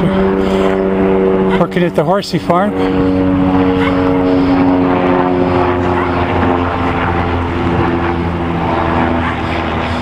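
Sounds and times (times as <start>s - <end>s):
helicopter engine and rotor hum: 0.0s - 10.0s.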